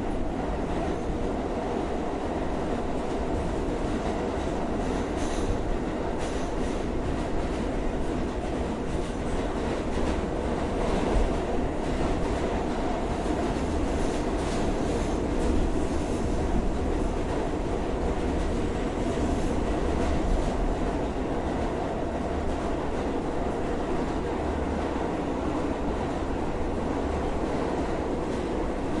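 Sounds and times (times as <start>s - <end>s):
subway train rumble: 0.0s - 29.0s.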